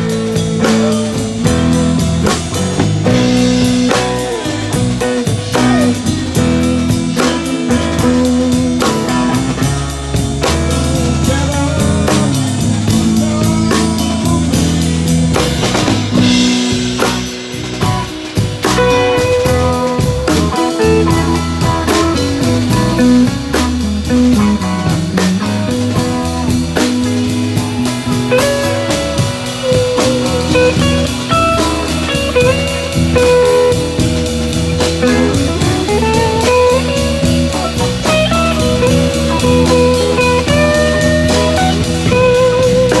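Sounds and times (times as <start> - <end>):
drum and cymbal strokes: 0.0 - 43.0
electric guitar bending long notes: 0.0 - 43.0.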